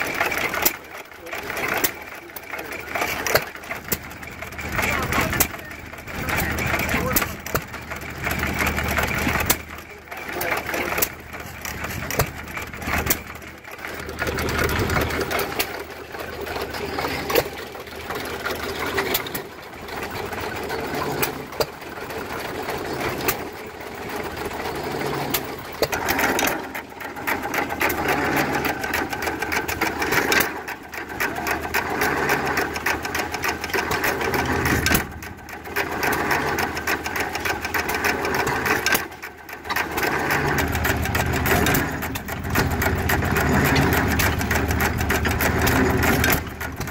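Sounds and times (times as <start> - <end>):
gas engines clattering: 0.0 - 46.9.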